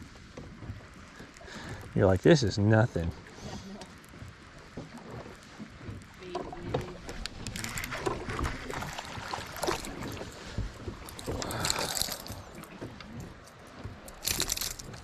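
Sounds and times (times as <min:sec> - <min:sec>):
water splashing against hull: 0:00.0 - 0:15.0.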